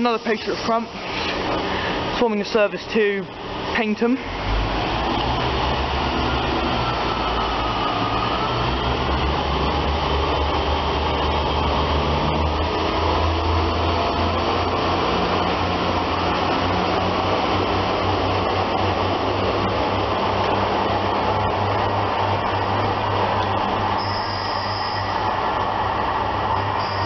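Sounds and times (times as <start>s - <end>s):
diesel train engine droning: 0.0s - 27.0s.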